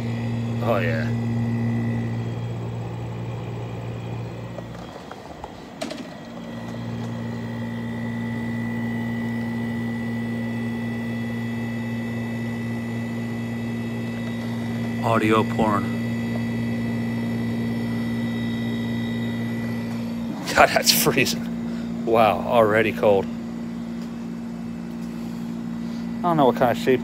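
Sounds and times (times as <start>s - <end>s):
air conditioner humming: 0.0s - 27.0s
thin high whine: 0.0s - 27.0s.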